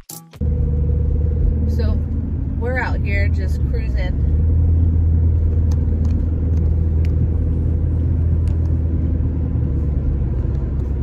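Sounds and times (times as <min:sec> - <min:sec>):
engine and tyre rumble: 0:00.4 - 0:11.0.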